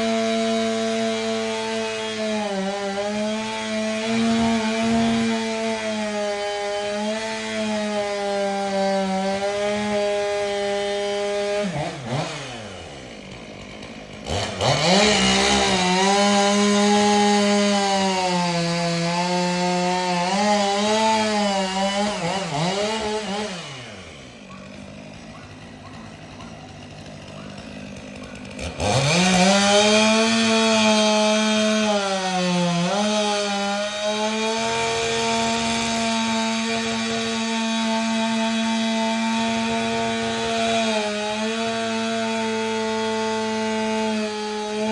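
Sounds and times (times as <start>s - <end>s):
chainsaw cutting and idling: 0.0s - 44.9s.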